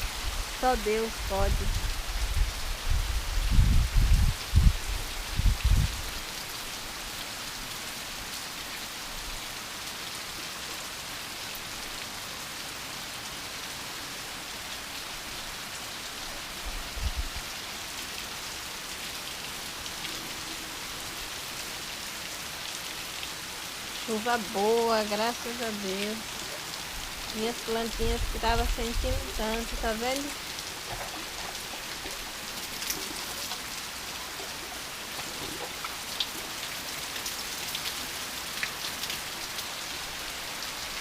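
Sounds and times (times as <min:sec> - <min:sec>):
light rain falling: 0:00.0 - 0:41.0.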